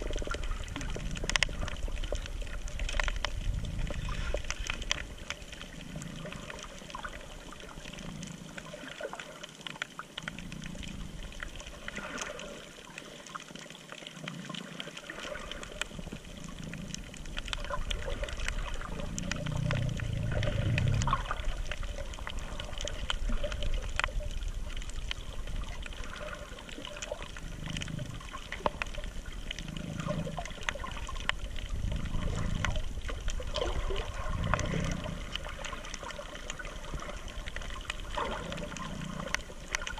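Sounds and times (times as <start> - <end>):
muffled underwater water movement: 0.0 - 39.9.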